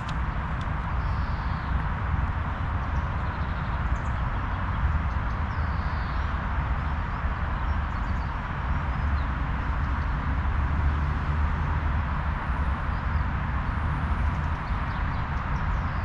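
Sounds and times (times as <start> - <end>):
wind in leaves: 0.0 - 16.0.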